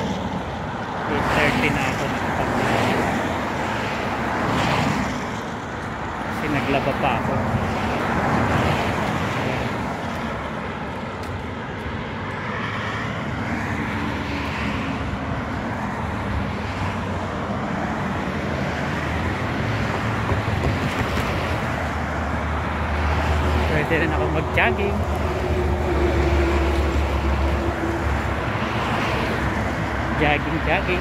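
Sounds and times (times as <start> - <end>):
road traffic going by: 0.0 - 31.0.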